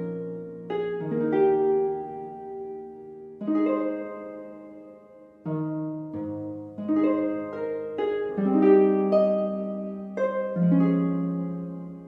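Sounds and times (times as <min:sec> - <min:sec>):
gentle plucked instrumental music: 0:00.0 - 0:12.0.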